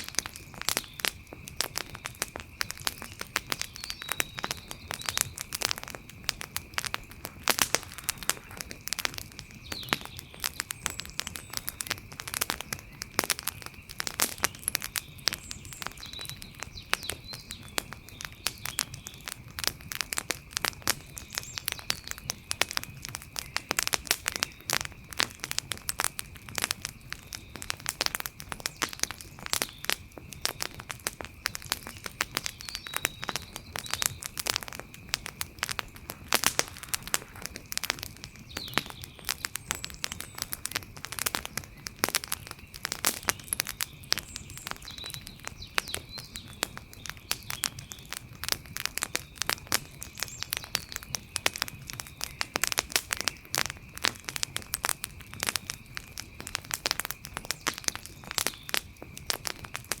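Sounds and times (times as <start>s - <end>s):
campfire crackling: 0.0s - 60.0s.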